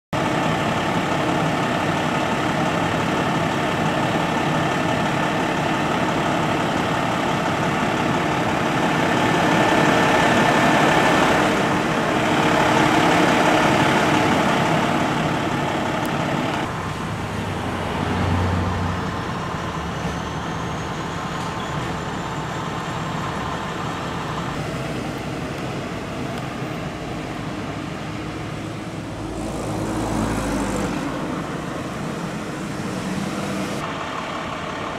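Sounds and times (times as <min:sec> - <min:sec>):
street traffic: 0:00.1 - 0:34.9
truck engine idling: 0:00.2 - 0:34.9.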